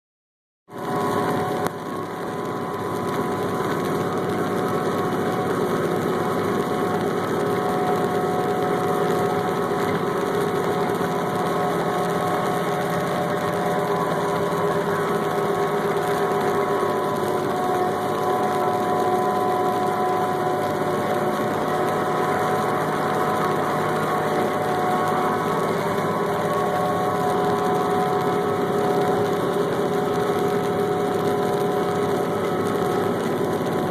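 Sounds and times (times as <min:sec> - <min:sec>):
harvesting machinery engine hum: 0:00.8 - 0:33.9.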